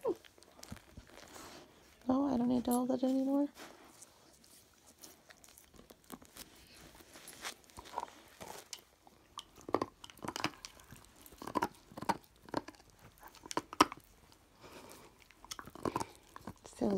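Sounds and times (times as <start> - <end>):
dog gnawing on a bone: 0.0 - 2.0, 4.0 - 16.9.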